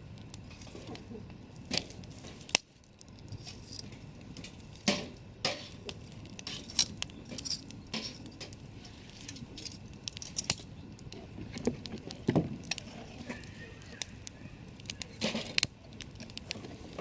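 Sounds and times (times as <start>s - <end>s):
campfire wood popping: 0.0s - 17.0s
low hiss of fire: 0.0s - 17.0s.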